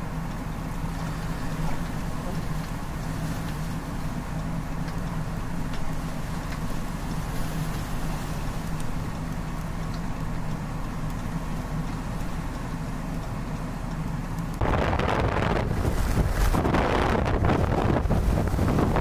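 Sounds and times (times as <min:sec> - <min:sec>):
blizzard wind rumbling: 0:00.0 - 0:19.0
low vehicle engine hum: 0:00.0 - 0:19.0.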